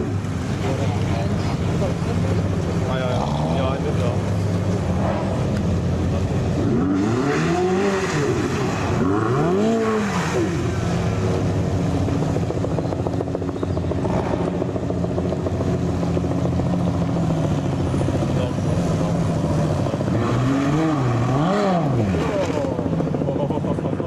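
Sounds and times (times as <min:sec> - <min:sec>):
car engine revving: 0:00.0 - 0:24.0
engines running at low revs: 0:00.0 - 0:24.0.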